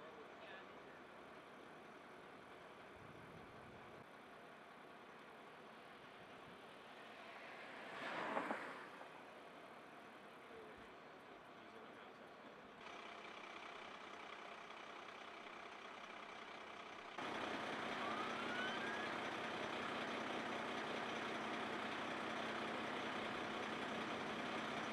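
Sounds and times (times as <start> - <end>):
vehicle engines running: 0.0 - 24.9.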